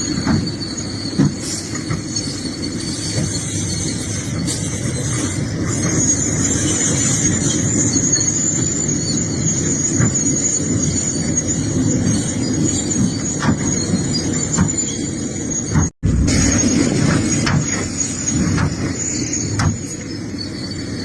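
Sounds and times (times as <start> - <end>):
excavator engine rumbling: 0.0 - 21.0
high-pitched squeal: 0.0 - 21.0.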